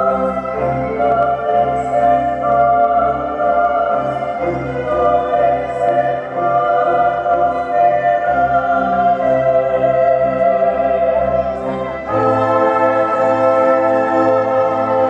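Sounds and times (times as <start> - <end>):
slow sustained music chords: 0.0 - 15.0.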